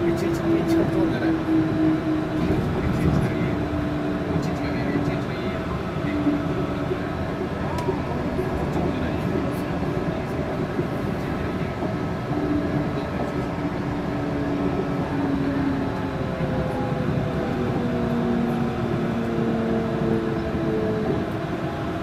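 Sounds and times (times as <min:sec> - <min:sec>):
train rumbling on guideway: 0:00.0 - 0:22.0.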